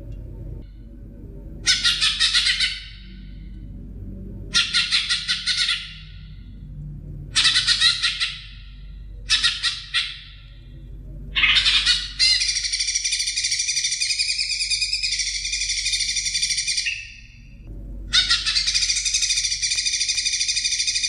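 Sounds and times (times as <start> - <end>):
bird chirping and warbling: 1.6 - 3.8, 4.5 - 6.7, 7.3 - 21.0.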